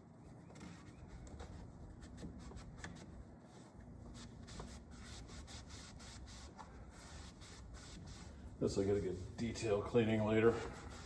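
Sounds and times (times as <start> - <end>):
scrubbing and wiping: 0.7 - 11.0.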